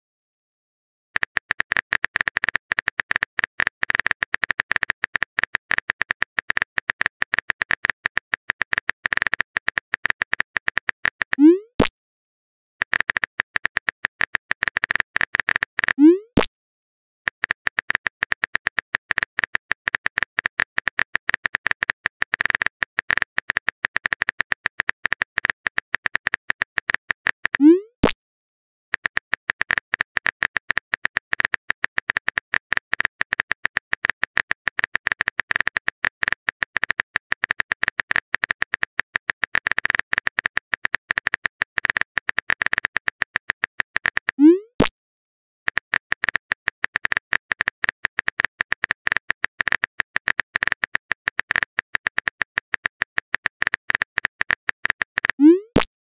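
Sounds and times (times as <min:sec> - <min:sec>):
rapid typing clicks: 0:01.2 - 0:11.4, 0:12.8 - 0:16.0, 0:17.3 - 0:27.7, 0:28.9 - 0:44.4, 0:45.7 - 0:55.7.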